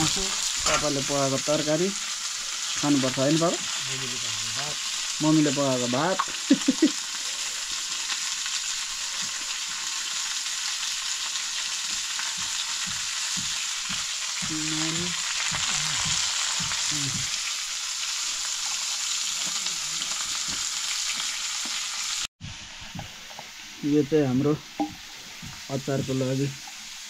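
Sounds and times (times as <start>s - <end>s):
meat sizzling in a wok: 0.0s - 27.0s.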